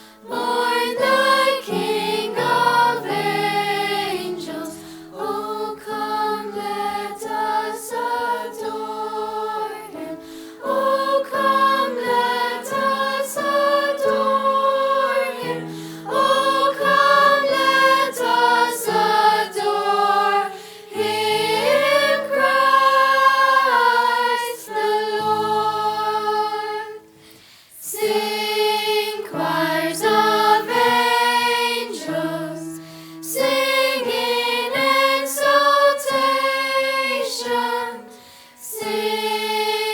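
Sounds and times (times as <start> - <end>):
choir singing: 0.0 - 27.2, 27.8 - 39.9.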